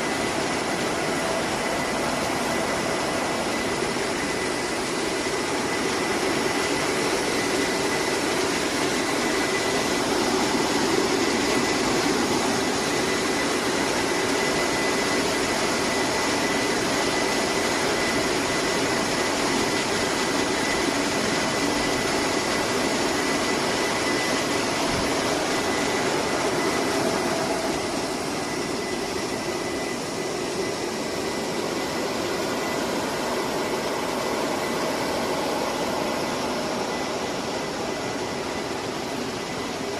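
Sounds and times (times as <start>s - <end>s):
high-pitched whine: 0.0s - 39.9s
machinery running: 0.0s - 39.9s.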